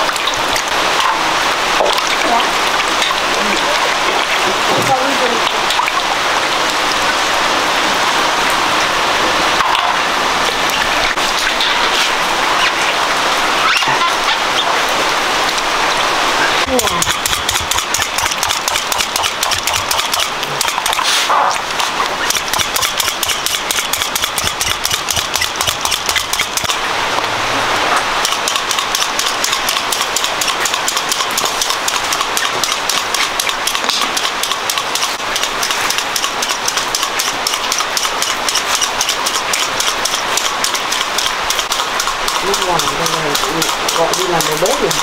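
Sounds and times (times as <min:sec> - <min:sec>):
meat frying in hot oil: 0:00.0 - 0:45.0.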